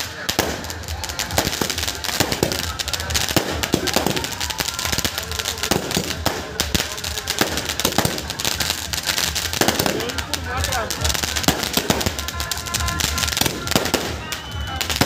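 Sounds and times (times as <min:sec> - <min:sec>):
fireworks bursting in rapid bangs: 0:00.0 - 0:15.0.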